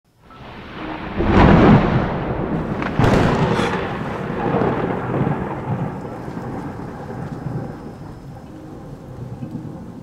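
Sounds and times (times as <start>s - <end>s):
steady rain: 0.1s - 10.0s
thunder rumbling: 0.3s - 10.0s.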